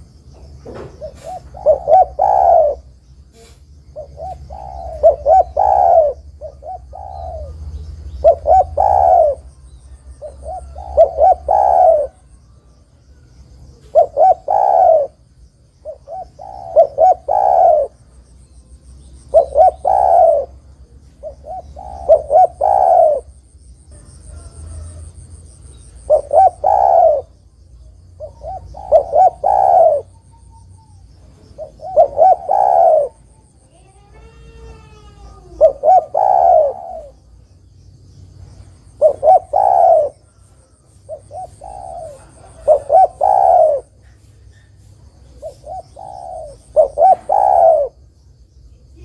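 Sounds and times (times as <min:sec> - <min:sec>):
dove cooing: 0:00.6 - 0:18.1, 0:18.7 - 0:37.4, 0:38.8 - 0:48.1.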